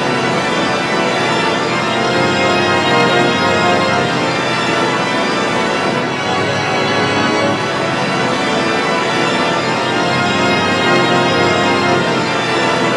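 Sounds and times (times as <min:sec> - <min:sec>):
organ-like electronic chord: 0:00.2 - 0:12.9.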